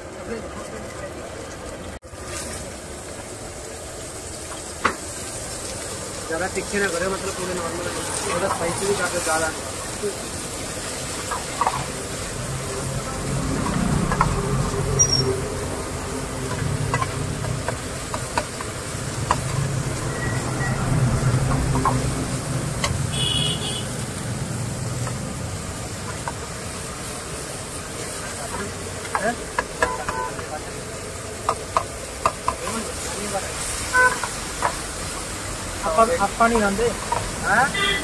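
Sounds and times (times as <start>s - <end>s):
vegetables frying: 0.0s - 38.0s.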